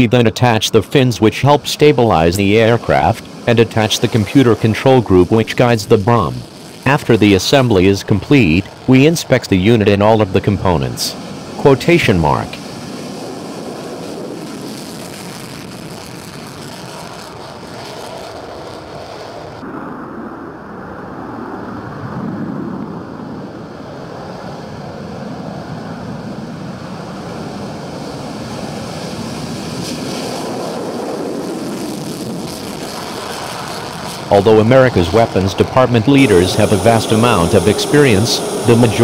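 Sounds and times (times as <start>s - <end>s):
wind rushing: 0.0s - 24.0s, 29.0s - 39.0s
aircraft engines: 0.0s - 39.0s.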